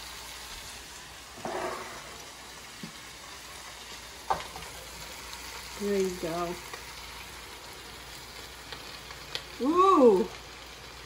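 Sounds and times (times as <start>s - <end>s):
meat frying in oil: 0.0s - 11.0s.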